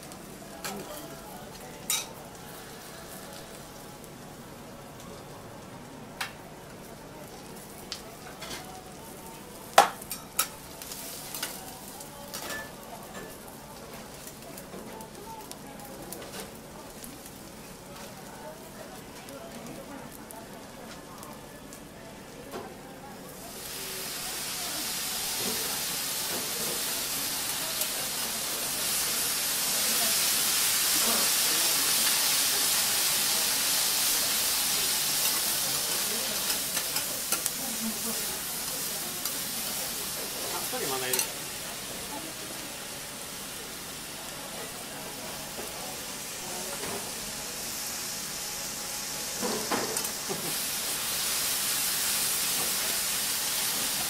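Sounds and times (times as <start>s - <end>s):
food sizzling on griddle: 0.0s - 54.0s.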